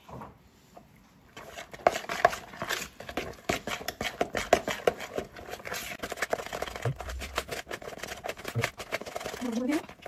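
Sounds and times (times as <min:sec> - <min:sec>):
spatula scraping mixture in bowl: 0:01.3 - 0:10.0.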